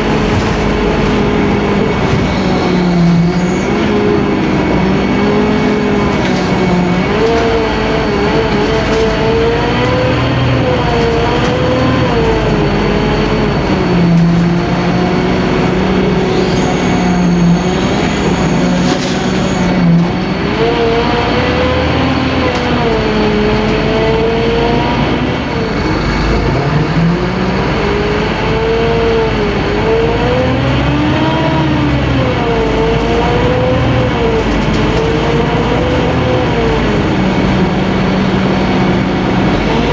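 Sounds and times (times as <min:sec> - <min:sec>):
bus diesel engine growling: 0:00.0 - 0:39.9.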